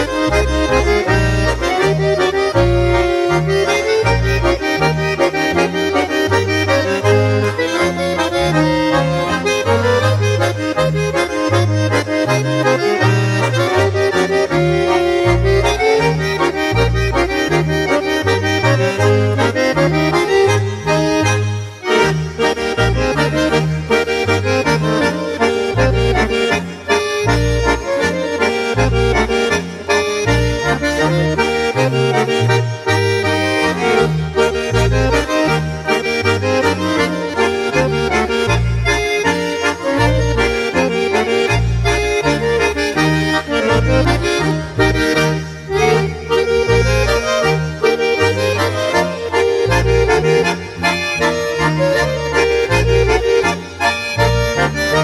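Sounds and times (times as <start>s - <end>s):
accordion folk music: 0.0s - 55.0s.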